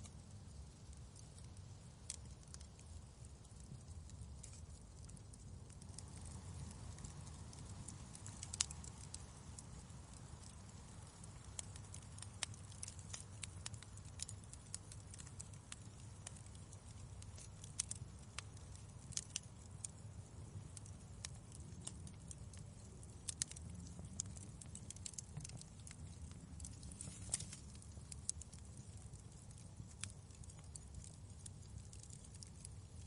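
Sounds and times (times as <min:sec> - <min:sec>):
fireplace fire crackling: 0:00.0 - 0:33.0.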